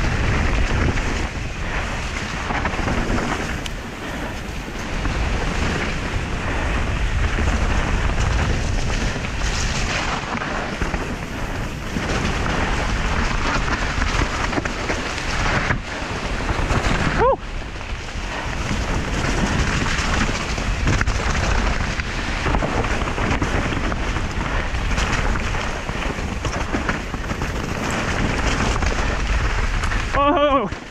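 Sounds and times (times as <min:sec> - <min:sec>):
tyres rumbling on trail: 0:00.0 - 0:30.9
wind rushing over microphone: 0:00.0 - 0:30.9.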